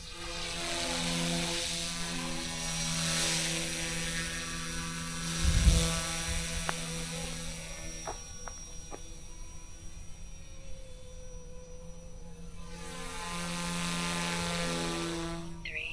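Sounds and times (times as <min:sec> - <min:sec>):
rc helicopter buzzing whine: 0:00.0 - 0:15.9.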